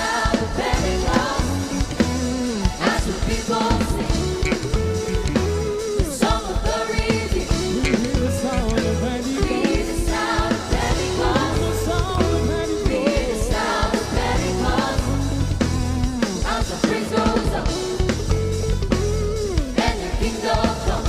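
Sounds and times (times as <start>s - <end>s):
choir singing gospel song: 0.0s - 18.5s, 19.5s - 21.0s
bass: 0.0s - 21.0s
drums: 0.0s - 21.0s
guitar: 0.0s - 21.0s.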